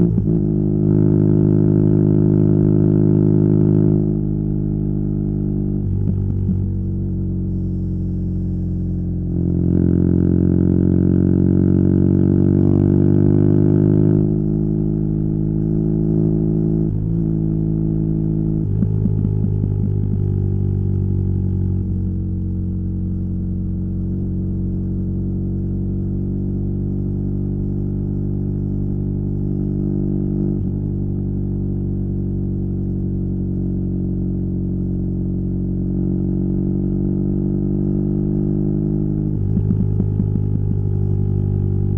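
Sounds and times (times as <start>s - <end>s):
motorcycle engine revving: 0.0s - 32.8s, 33.4s - 41.9s.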